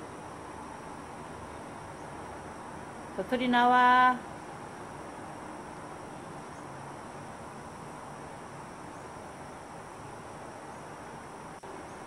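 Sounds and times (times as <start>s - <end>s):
room noise hiss: 0.0s - 12.0s.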